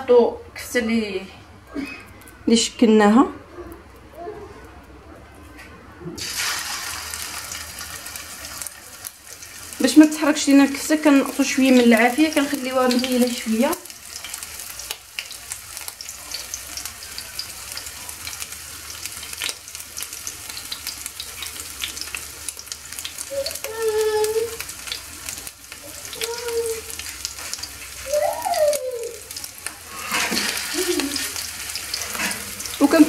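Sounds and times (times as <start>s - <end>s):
meat patty sizzling in oil: 6.2s - 33.0s.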